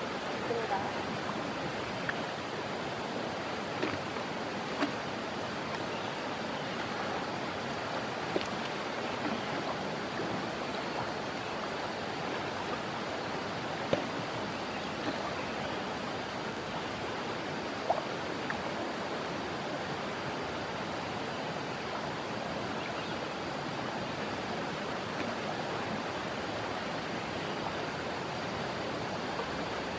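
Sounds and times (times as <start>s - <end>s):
river flowing: 0.0s - 29.9s.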